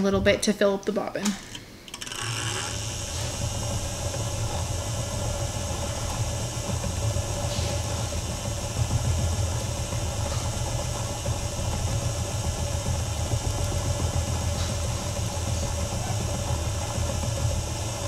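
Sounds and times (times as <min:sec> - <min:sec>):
electric spinning wheel humming: 0:01.4 - 0:18.0.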